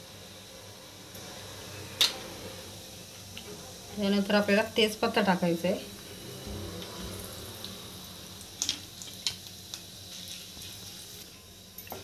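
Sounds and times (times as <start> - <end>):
seeds sizzling in hot oil: 0.0 - 12.0.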